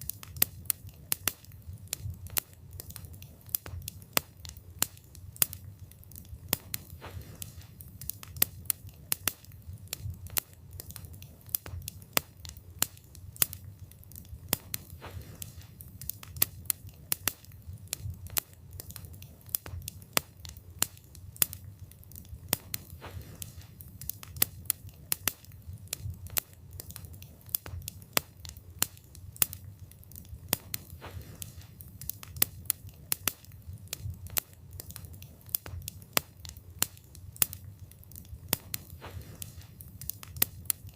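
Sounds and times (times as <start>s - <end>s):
burning wood crackling and popping: 0.0s - 40.9s
low rumble of flames: 0.0s - 40.9s.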